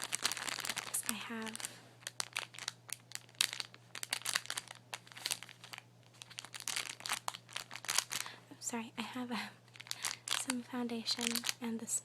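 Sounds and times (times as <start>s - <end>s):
plastic packaging crinkling: 0.0s - 8.4s, 9.7s - 11.6s.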